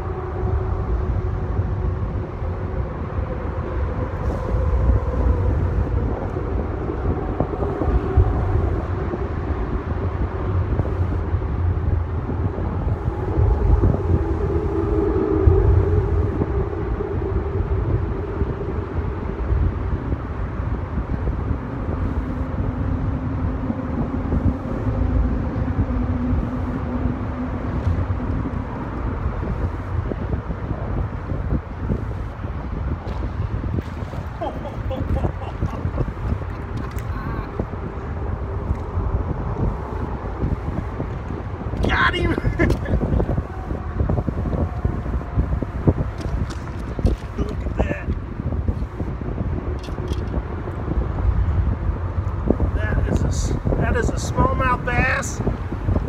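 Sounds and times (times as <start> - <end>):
passing vehicles humming: 0.0 - 56.0
road traffic rumble: 0.0 - 56.0.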